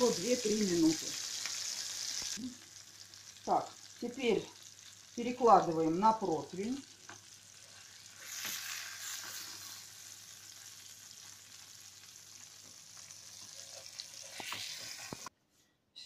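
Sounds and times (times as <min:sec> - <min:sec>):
food sizzling in hot oil: 0:00.0 - 0:15.3.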